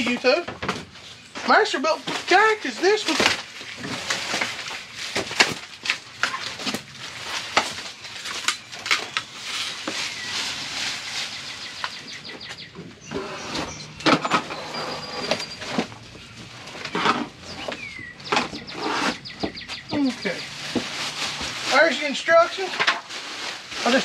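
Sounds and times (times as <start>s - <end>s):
cardboard rustling and scraping: 0.0s - 24.0s.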